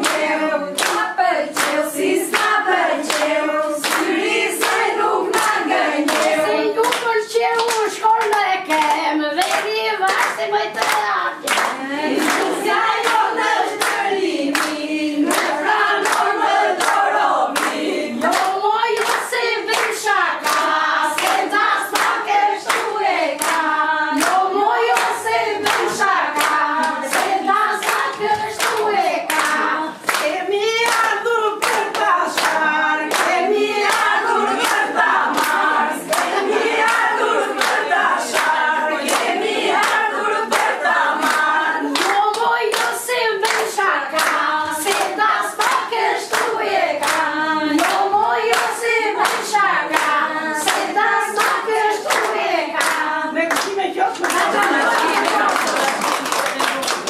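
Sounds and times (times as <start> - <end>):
hand claps: 0.0 - 57.0
women singing together: 0.0 - 57.0.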